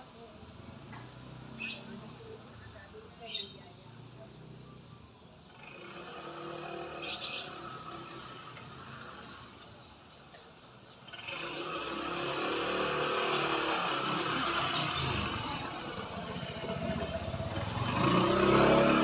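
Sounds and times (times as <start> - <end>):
passing motor vehicle: 0.0 - 19.0
songbird chirping: 0.0 - 19.0.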